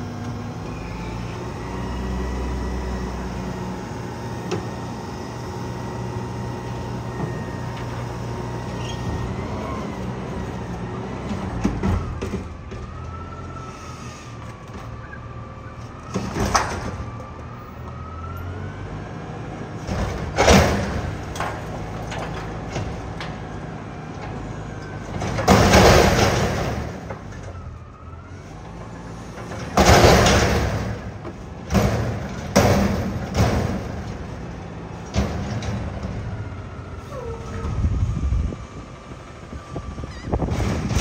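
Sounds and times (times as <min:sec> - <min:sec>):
truck engine hum: 0:00.0 - 0:41.0.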